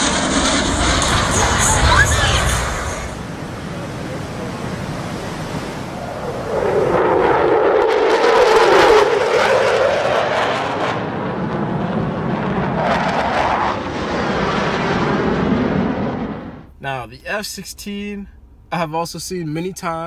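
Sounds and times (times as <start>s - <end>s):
fighter jet flying past: 0.0s - 16.7s.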